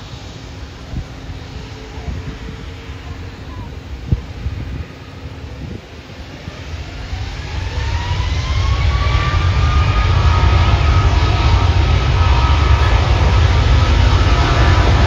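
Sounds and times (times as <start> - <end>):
jet engines spooling up: 0.0 - 15.0
rising engine whine: 0.0 - 15.0.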